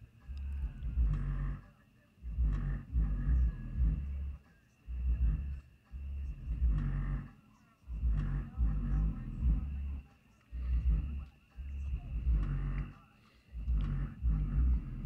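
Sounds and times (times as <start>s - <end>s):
low deep booming noise: 0.0s - 1.6s, 2.2s - 7.3s, 7.9s - 10.0s, 10.6s - 13.0s, 13.6s - 15.0s
faint high whine: 0.0s - 15.0s.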